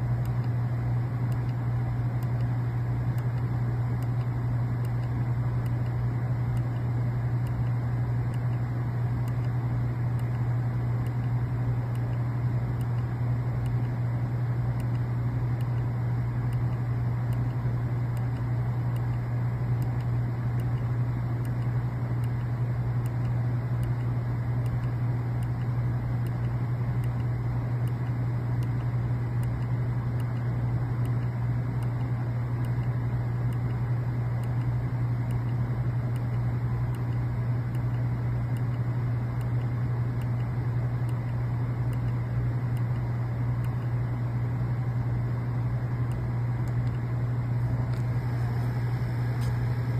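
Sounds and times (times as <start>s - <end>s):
refrigerator humming: 0.0s - 49.9s.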